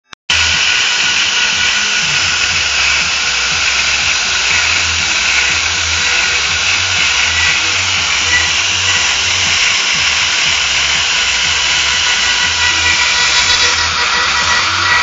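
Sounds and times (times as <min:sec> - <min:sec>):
low hum: 0:00.3 - 0:15.0
router spindle whine cutting wood: 0:00.3 - 0:15.0.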